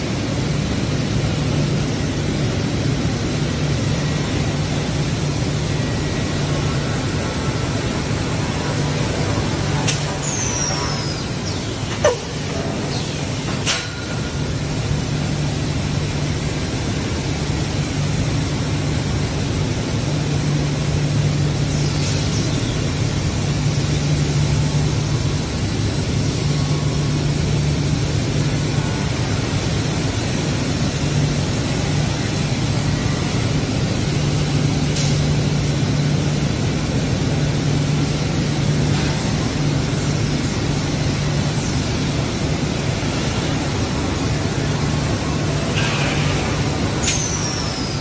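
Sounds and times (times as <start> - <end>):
factory machinery noise: 0.0 - 48.0.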